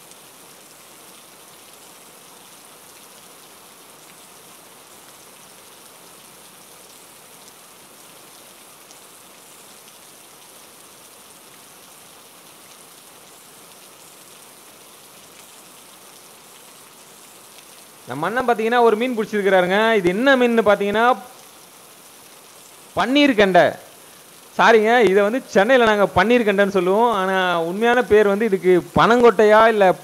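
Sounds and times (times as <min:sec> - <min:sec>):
heavy rain hiss: 0:00.0 - 0:30.0
raindrops ticking close by: 0:00.0 - 0:30.0.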